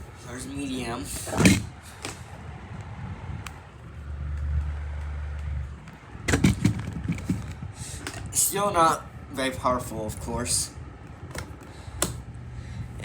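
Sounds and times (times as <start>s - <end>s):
box fan rushing air: 0.0s - 13.0s.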